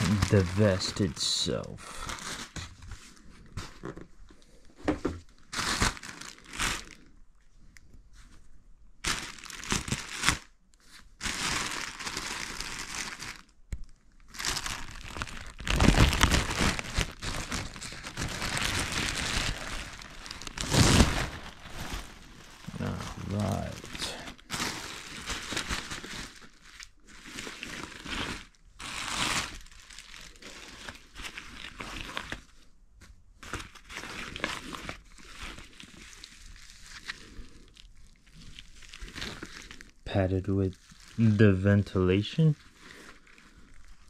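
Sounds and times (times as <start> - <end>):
plastic packaging crinkling and tearing: 0.0 - 4.2, 5.2 - 7.1, 9.0 - 32.6, 33.4 - 44.0.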